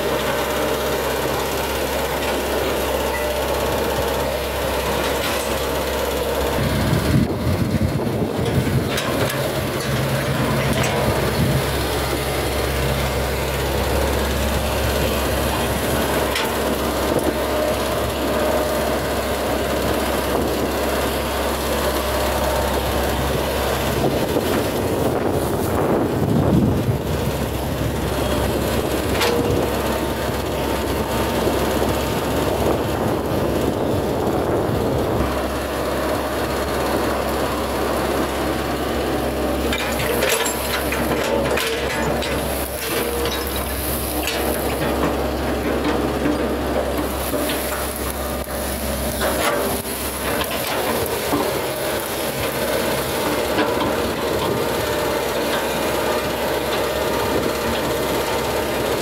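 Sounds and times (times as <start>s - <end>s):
excavator diesel engine running: 0.0s - 59.0s
hydraulic machine noise: 0.0s - 59.0s.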